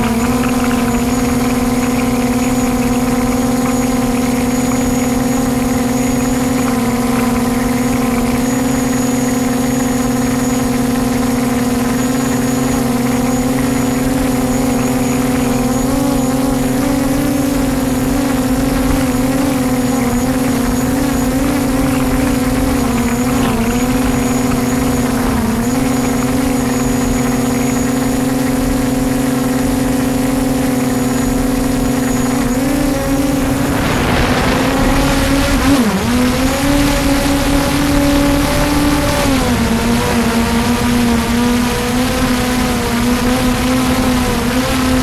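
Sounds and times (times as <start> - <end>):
drone propellers humming: 0.0 - 45.0.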